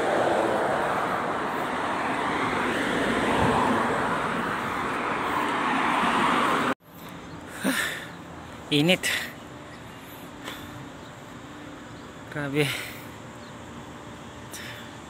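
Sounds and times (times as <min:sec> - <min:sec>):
cars passing: 0:00.0 - 0:15.0.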